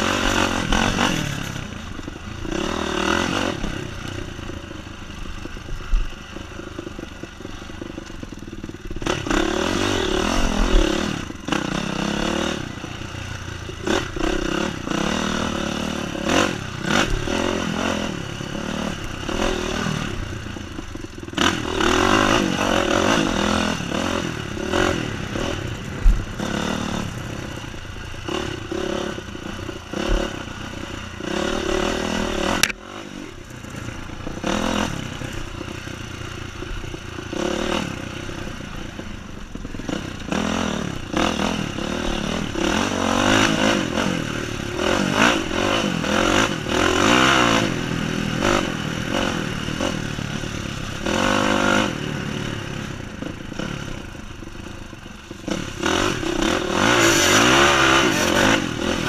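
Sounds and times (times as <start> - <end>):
bike rattling over rough ground: 0.0 - 59.0
dirt bike engine revving: 0.0 - 59.0.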